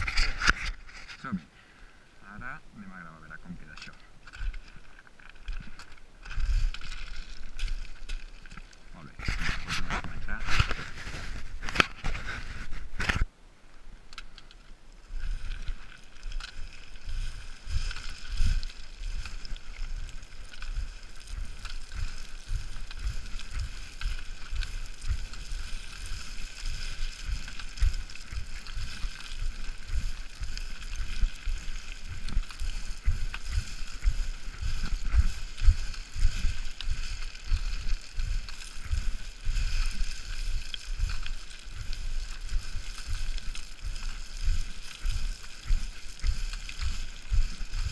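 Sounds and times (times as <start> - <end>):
stones crunching and sliding underfoot: 0.0 - 1.4, 2.2 - 47.9.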